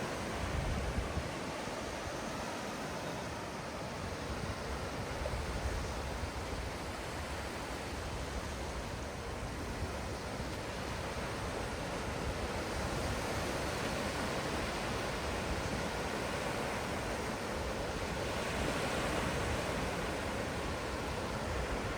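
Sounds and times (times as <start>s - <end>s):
ocean surf washing: 0.0s - 21.9s.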